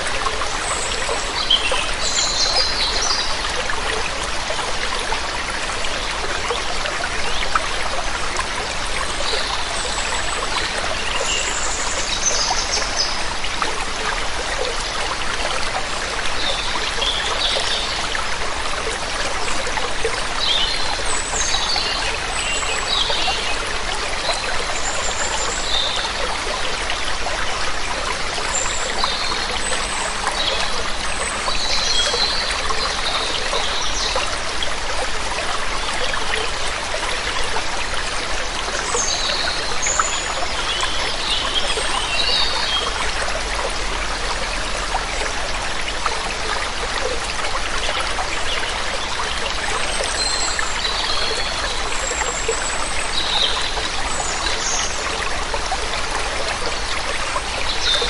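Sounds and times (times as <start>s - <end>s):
waterfall running water: 0.0s - 58.0s.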